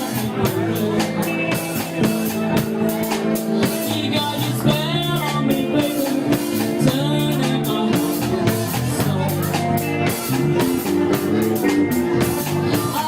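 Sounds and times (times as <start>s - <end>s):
bass guitar: 0.0s - 13.0s
drum kit: 0.0s - 13.0s
electric guitar bending notes: 0.0s - 13.0s.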